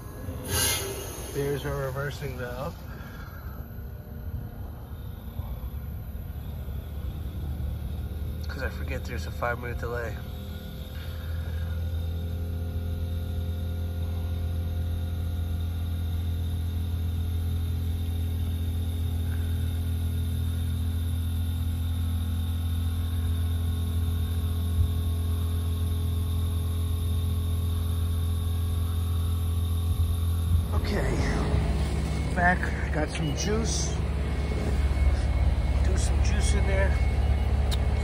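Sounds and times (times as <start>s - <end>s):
heat pump unit humming: 0.0s - 38.0s.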